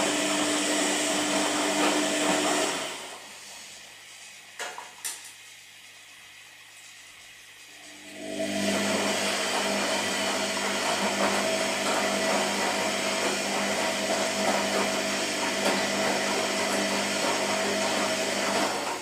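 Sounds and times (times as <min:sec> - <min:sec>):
washing machine motor whirring: 0:00.0 - 0:19.0.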